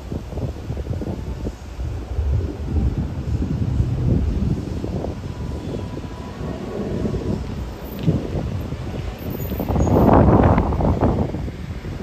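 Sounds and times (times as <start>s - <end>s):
jet engines rumbling overhead: 0.0s - 12.0s
wind buffeting microphone: 0.0s - 12.0s.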